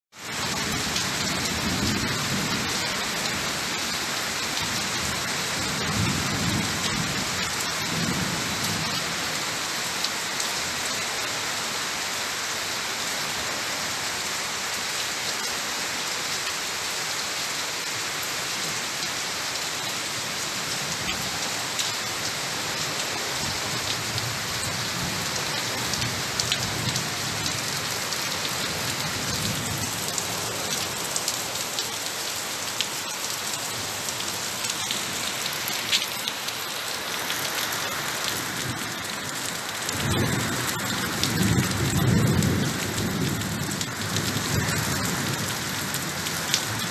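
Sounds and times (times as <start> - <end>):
rain on foliage: 0.1 - 46.9.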